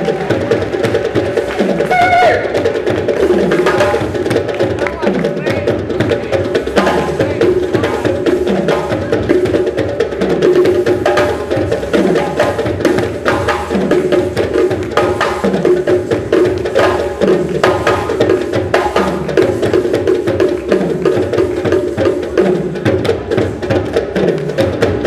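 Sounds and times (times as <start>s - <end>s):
music with busy percussion beat: 0.0s - 25.0s.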